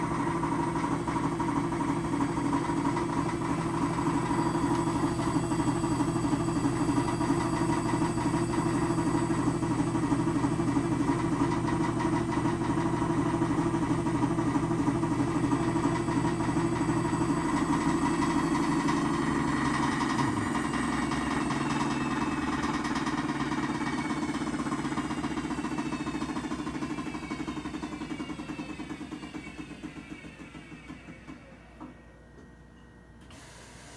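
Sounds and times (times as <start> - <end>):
washing machine spinning with rattle: 0.0 - 33.9.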